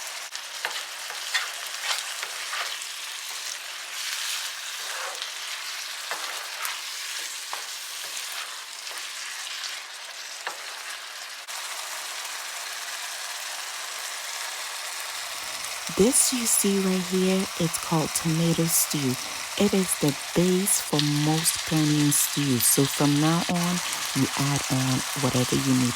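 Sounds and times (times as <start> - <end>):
stew sizzling in oil: 0.0 - 25.9.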